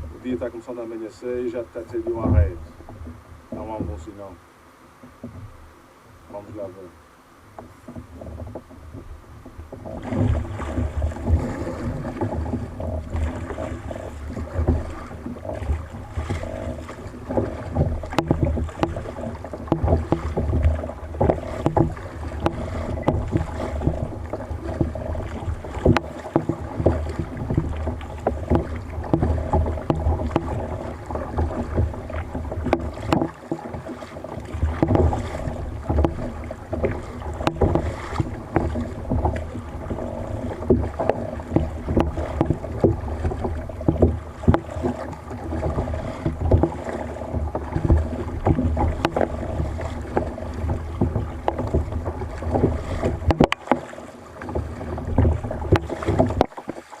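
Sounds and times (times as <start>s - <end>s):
water splashing: 0.0s - 4.4s, 7.5s - 57.0s
paddle strokes against hull: 0.0s - 57.0s
small knocks: 1.9s - 4.2s, 5.0s - 5.6s, 7.5s - 56.8s.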